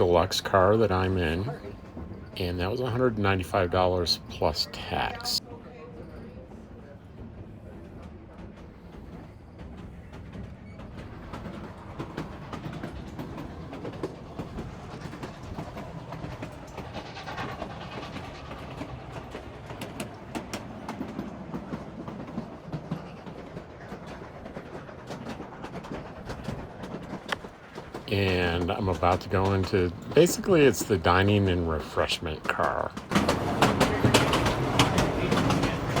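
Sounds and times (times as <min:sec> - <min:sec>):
train cars rumbling on track: 0:00.0 - 0:36.0.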